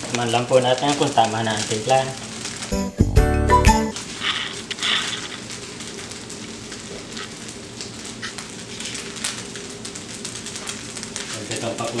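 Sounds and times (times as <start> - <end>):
rice sizzling in an oiled pan: 0.0 - 12.0.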